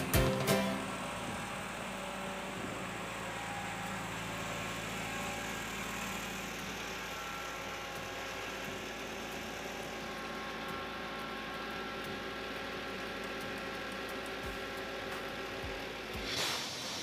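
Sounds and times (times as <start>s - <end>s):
air compressor engine running: 0.0s - 17.0s.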